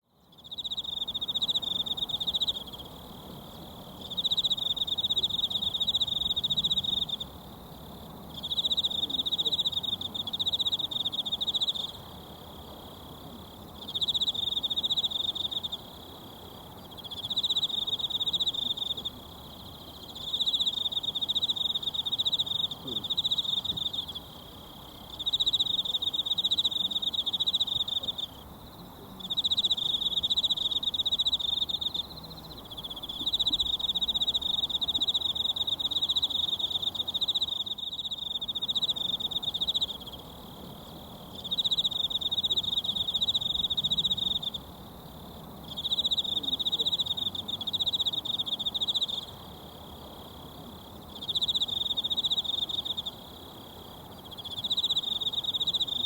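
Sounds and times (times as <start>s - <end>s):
insect trilling: 8.3s - 56.0s.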